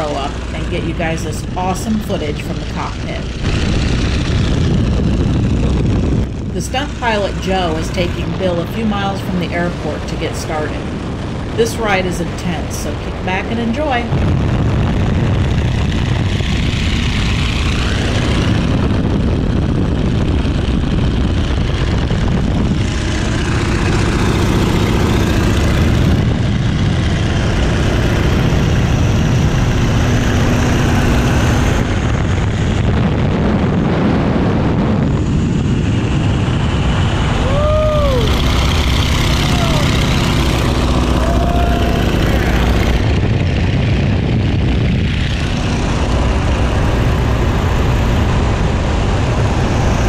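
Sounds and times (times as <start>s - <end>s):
biplane engine and propeller: 0.0s - 50.0s
wind rushing: 0.0s - 50.0s.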